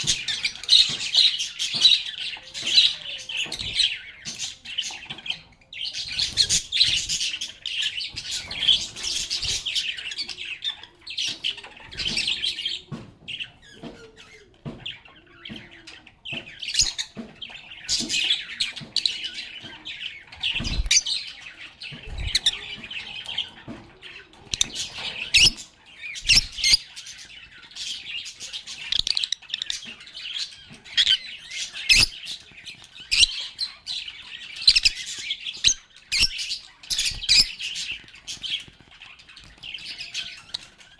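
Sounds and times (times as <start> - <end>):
lovebirds chirping and squeaking: 0.0 - 40.9.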